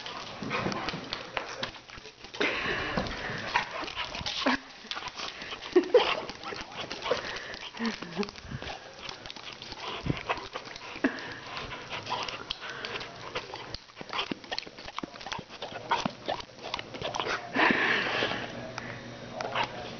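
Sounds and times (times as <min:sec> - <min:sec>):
claws clicking on wooden floor: 0:00.0 - 0:17.2
dog licking and snapping: 0:00.0 - 0:17.5, 0:19.4 - 0:19.9.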